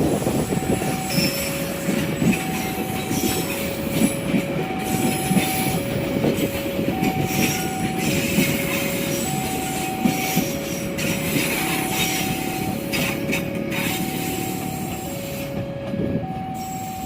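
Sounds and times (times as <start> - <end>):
train wheel clatter: 0.0 - 16.8
train rumbling past: 0.0 - 17.0
two-tone electronic warning alarm: 0.0 - 17.0.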